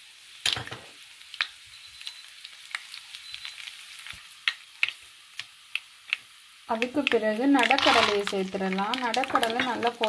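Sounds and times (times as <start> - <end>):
seeds sizzling and popping in oil: 0.0 - 10.0.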